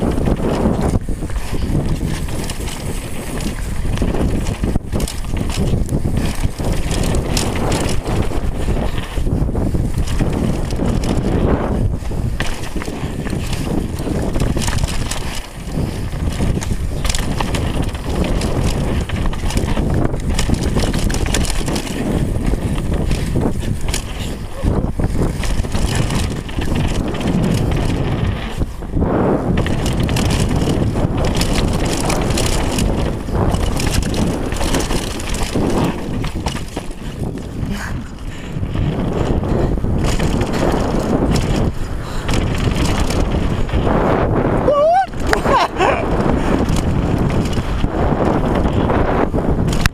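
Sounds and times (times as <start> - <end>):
bike rattling and knocking: 0.0 - 49.9
tyres rumbling on dirt: 0.0 - 49.9
wind buffeting microphone: 0.0 - 49.9.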